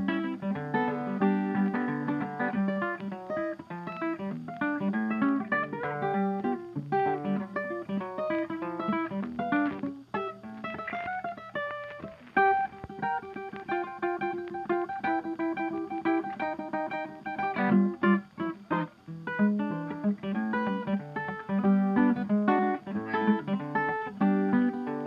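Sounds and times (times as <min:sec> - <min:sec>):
guitar picking quick runs: 0:00.0 - 0:25.0.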